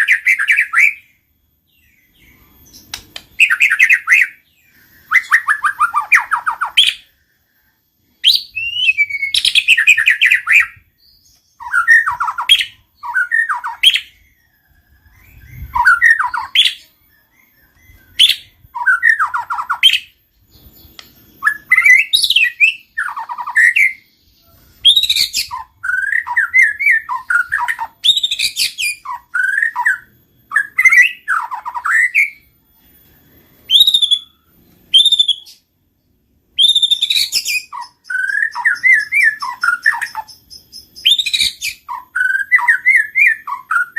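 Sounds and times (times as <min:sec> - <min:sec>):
bird calling with whistles: 0:00.0 - 0:01.2, 0:01.8 - 0:07.3, 0:08.2 - 0:32.5, 0:33.6 - 0:35.7, 0:36.6 - 0:43.9.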